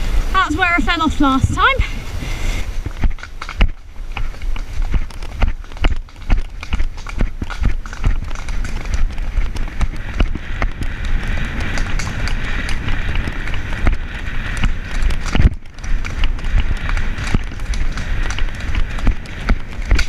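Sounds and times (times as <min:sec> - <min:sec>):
horse hooves beating on dirt: 0:00.0 - 0:20.0
wind rumble on microphone: 0:00.0 - 0:20.0.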